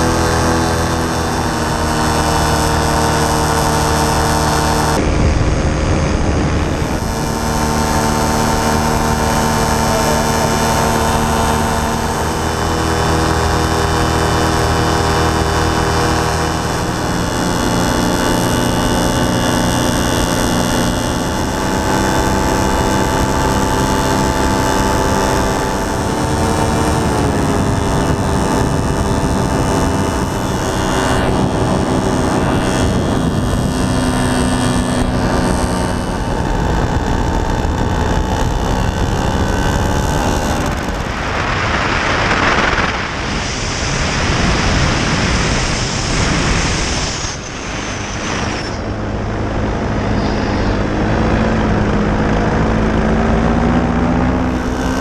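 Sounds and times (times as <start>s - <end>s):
paramotor engine drone: 0.0s - 55.0s
wind rushing over microphone: 0.0s - 55.0s.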